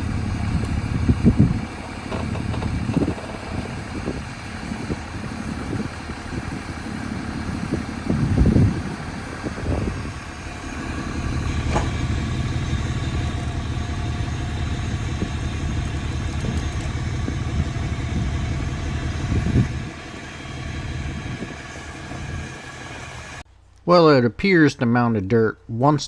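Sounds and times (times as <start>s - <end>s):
truck engine rumbling: 0.0s - 23.5s.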